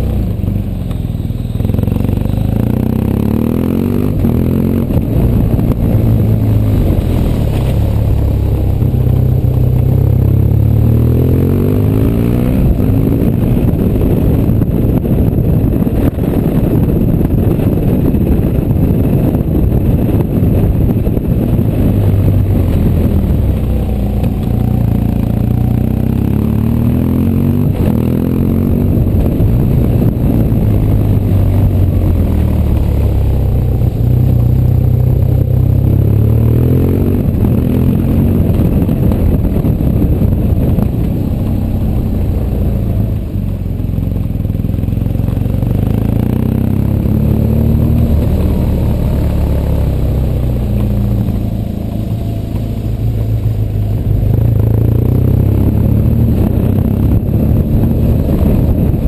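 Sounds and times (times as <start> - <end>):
motorcycle engine running: 0.0 - 59.0
wind rushing: 1.6 - 43.6, 44.9 - 59.0.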